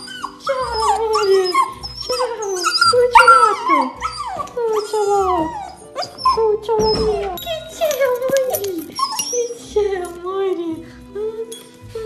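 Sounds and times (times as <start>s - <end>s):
puppy whining and howling: 0.0s - 10.0s.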